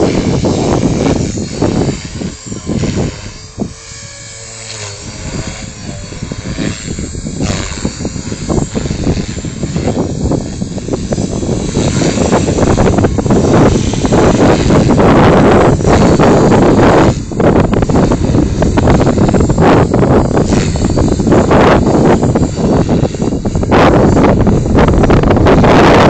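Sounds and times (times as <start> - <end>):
rc helicopter rotor whine: 0.0 - 26.0
wind buffeting microphone: 0.0 - 26.0.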